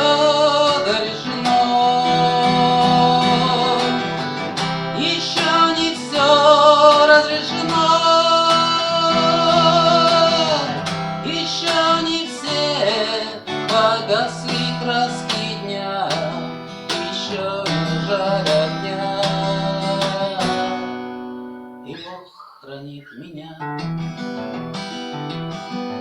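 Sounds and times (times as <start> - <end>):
man singing: 0.0 - 21.2, 21.8 - 23.8
acoustic guitar strumming: 0.0 - 26.0.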